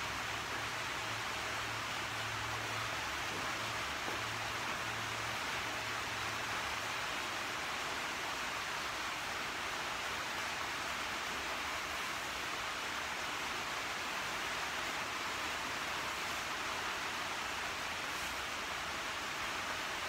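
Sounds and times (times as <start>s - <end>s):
rain on a metal shed: 0.0s - 20.0s.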